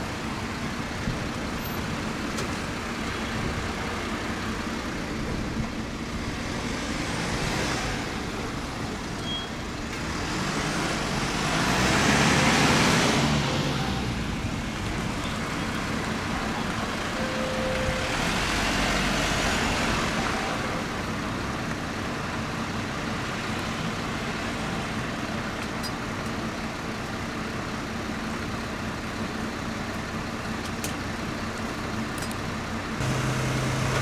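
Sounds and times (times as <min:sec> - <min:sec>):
vehicle engine running: 0:00.0 - 0:18.7, 0:20.0 - 0:34.0
road and traffic noise: 0:00.0 - 0:34.0.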